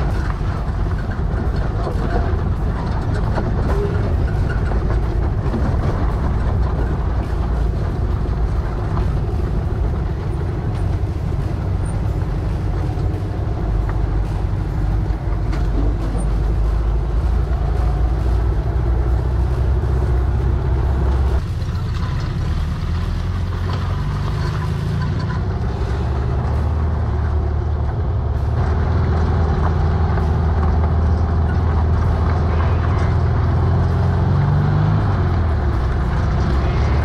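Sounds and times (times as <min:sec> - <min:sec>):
engine running under load: 0:00.0 - 0:37.0
tyre noise on dirt: 0:00.0 - 0:37.0.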